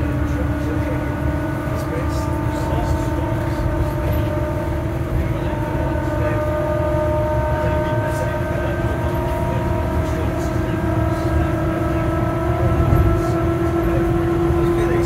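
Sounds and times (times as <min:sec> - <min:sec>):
moving bus rumble: 0:00.0 - 0:15.0.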